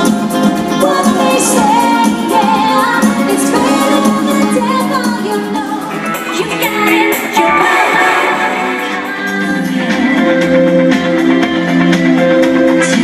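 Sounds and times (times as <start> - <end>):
pop band playing: 0.0 - 13.0
woman singing: 0.0 - 13.0.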